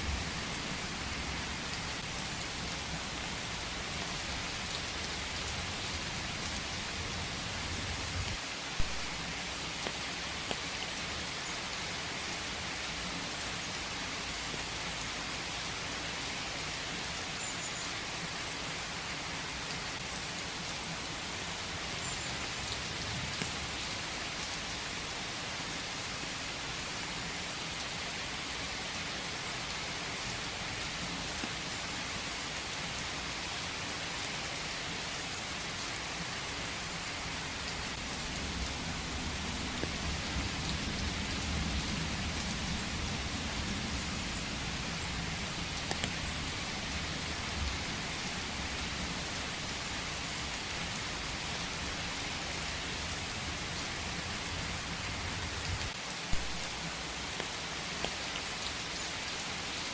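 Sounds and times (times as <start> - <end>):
rain falling in a forest: 0.0 - 59.9.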